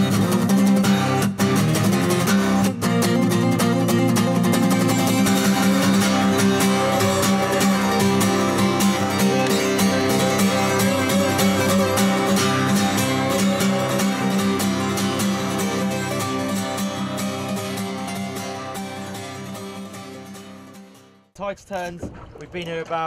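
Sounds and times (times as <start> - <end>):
strummed acoustic guitar: 0.0 - 21.3.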